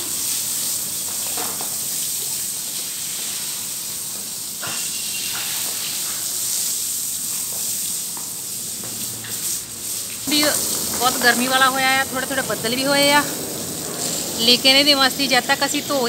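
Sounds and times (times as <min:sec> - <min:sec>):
hose water spraying on tiles: 0:00.0 - 0:16.0.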